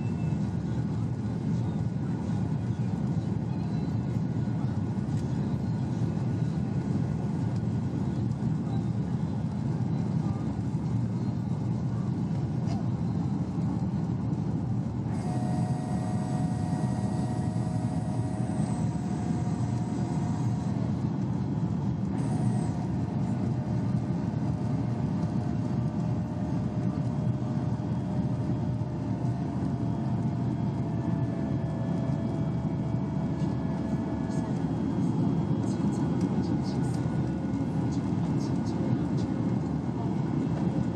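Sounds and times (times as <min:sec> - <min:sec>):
airplane cabin roar: 0:00.0 - 0:40.9
faint whine tones: 0:00.0 - 0:40.9.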